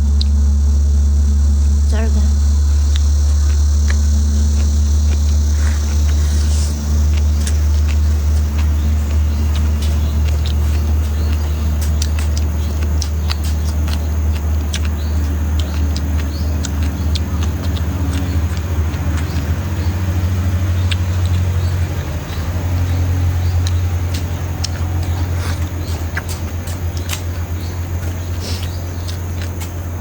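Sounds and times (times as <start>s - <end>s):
steady low rumble: 0.0s - 30.0s
person chewing food: 2.4s - 30.0s.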